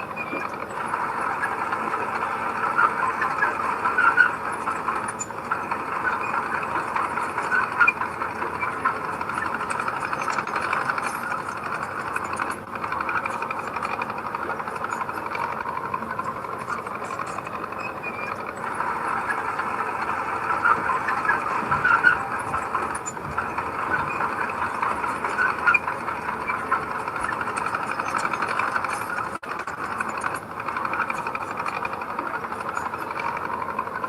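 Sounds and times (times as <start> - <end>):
bulldozer diesel engine and tracks: 0.0 - 34.0.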